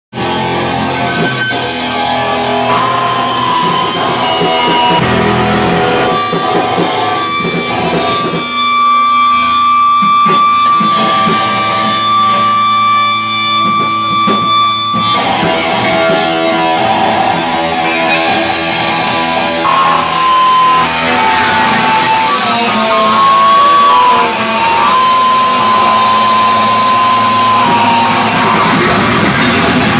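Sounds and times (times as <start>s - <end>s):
live rock band: 0.1s - 29.9s
held high guitar note: 0.2s - 29.9s.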